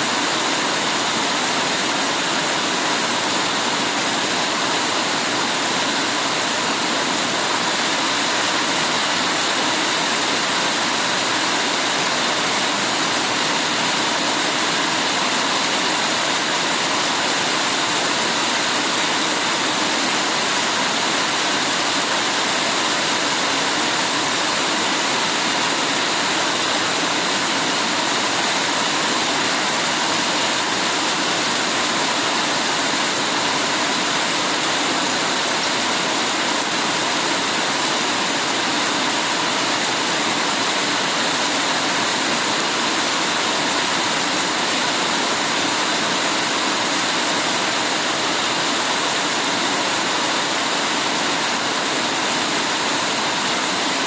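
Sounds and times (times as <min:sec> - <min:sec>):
heavy rain falling: 0:00.0 - 0:54.0
running water: 0:00.0 - 0:54.0.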